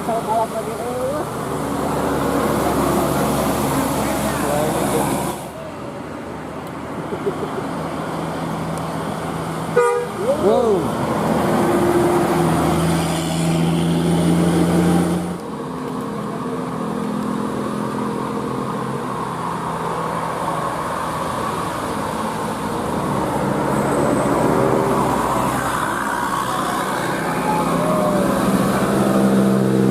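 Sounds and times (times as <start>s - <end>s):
heavy vehicle engine droning: 0.0s - 29.9s
road traffic hum: 0.0s - 29.9s.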